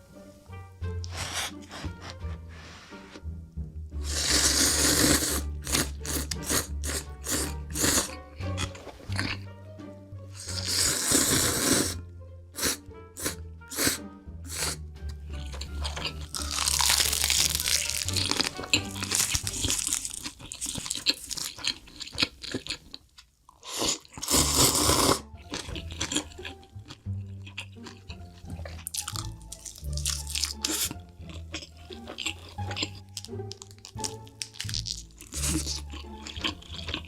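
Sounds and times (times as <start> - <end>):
background music: 0.0 - 37.0
crunching and chewing food: 1.0 - 3.2, 4.0 - 9.6, 10.4 - 12.0, 12.6 - 37.0.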